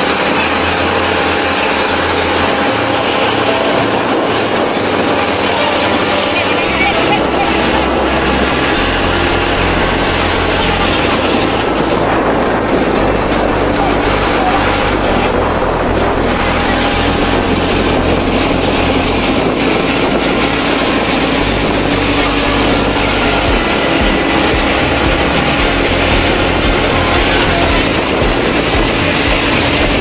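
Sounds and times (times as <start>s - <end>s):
boat engine and deck machinery: 0.0s - 30.0s.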